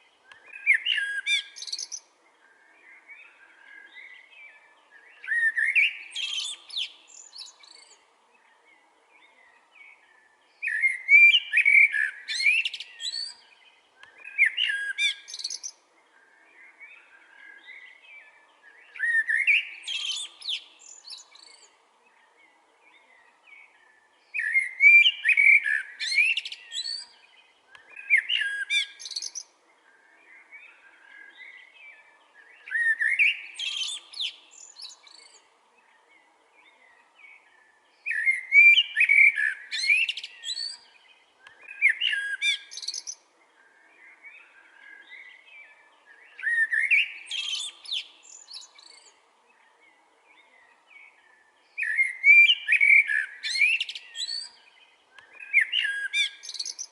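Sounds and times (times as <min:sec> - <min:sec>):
blackbird singing: 0:00.0 - 0:56.9
soft bird twittering: 0:00.0 - 0:56.9.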